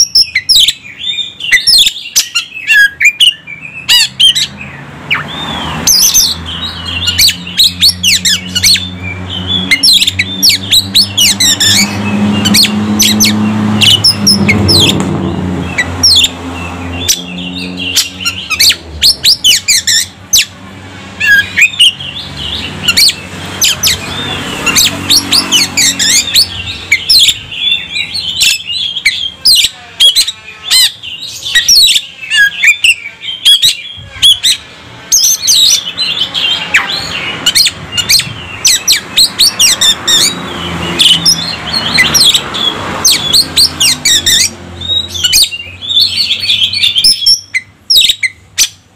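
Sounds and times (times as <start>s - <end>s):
bird singing chirps and whistles: 0.0s - 20.6s, 21.2s - 48.8s.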